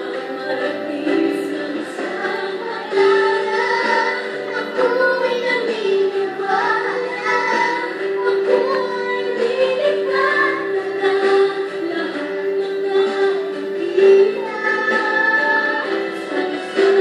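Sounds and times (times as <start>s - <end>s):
backing music: 0.0s - 17.0s
girl singing into microphone: 0.0s - 17.0s.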